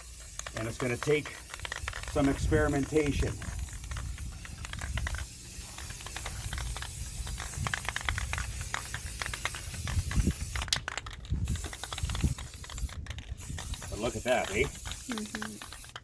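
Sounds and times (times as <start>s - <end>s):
rapid irregular clicking: 0.0s - 16.0s
spray can hissing: 0.0s - 16.0s.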